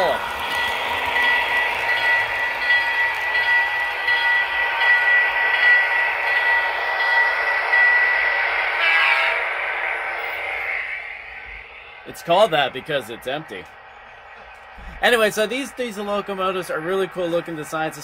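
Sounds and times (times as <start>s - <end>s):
model train rolling on track: 0.0s - 18.0s.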